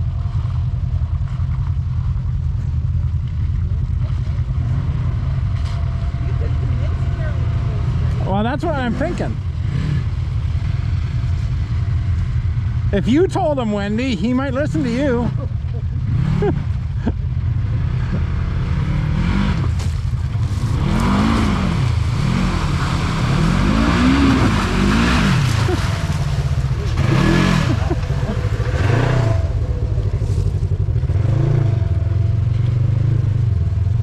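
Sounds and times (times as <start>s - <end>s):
off-road vehicle engine revving: 2.5s - 34.0s.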